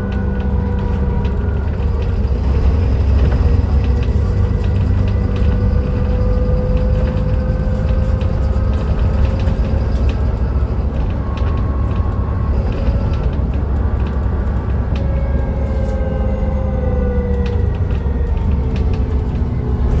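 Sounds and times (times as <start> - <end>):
bus engine rumble: 0.0 - 20.0
drivetrain whine: 0.0 - 20.0.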